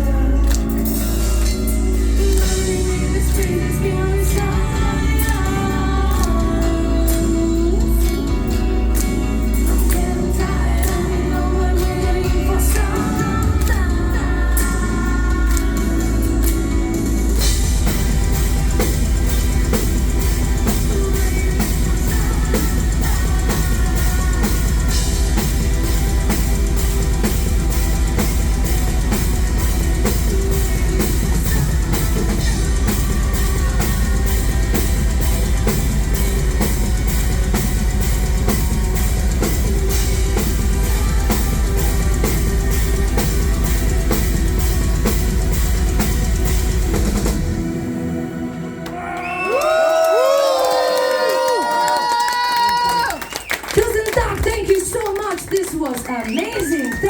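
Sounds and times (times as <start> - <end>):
live metal band playing: 0.0 - 51.5
fast drumming with cymbals: 0.4 - 47.8, 52.8 - 57.0.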